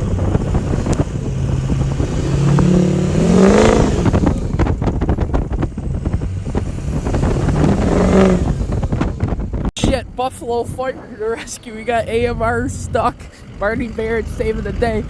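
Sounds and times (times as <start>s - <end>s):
constant low rumble: 0.0s - 15.0s
vehicle engine revving: 0.0s - 15.0s.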